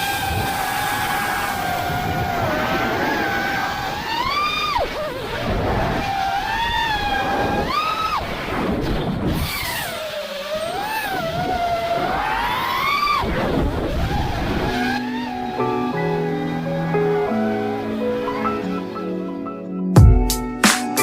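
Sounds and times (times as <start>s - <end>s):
drone motors whining: 0.0s - 19.9s.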